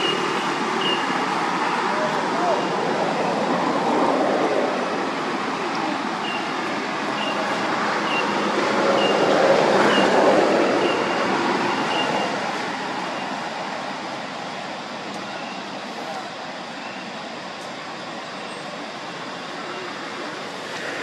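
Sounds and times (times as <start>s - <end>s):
outdoor rushing noise: 0.0s - 21.0s.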